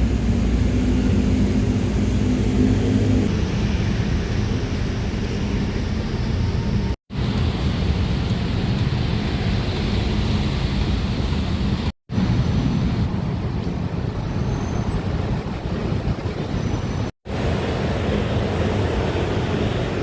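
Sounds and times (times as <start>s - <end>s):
rumbling vehicle noise: 0.0s - 20.0s
wind on microphone: 0.0s - 20.0s.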